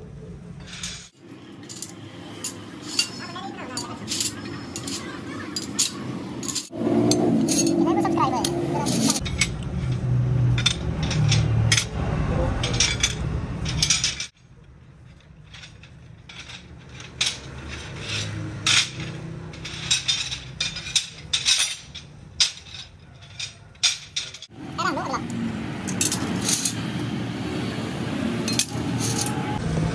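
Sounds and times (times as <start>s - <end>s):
steel strips clinking and clattering: 0.6s - 24.5s, 25.7s - 29.6s.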